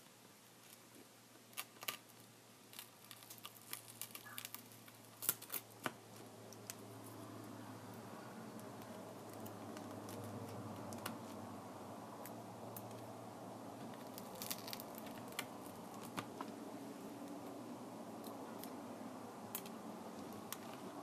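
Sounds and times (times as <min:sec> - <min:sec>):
steady low hum: 0:03.6 - 0:21.0.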